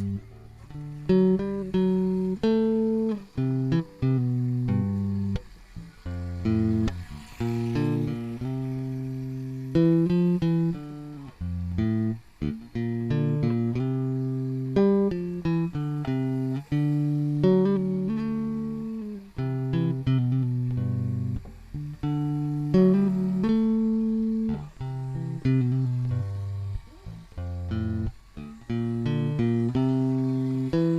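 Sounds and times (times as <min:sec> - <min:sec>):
plucked guitar notes: 0:00.0 - 0:30.9.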